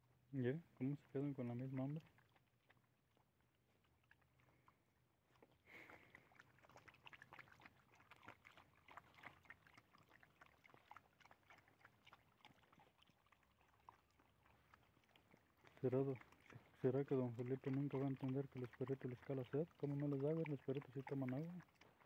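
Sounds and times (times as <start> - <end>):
dogs licking and chewing: 0.8 - 22.0.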